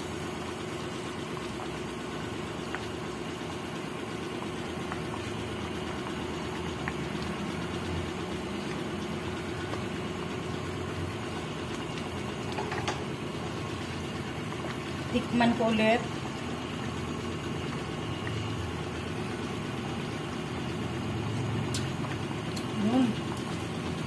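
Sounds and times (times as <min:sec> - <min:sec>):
sauce bubbling in a pan: 0:00.0 - 0:24.0.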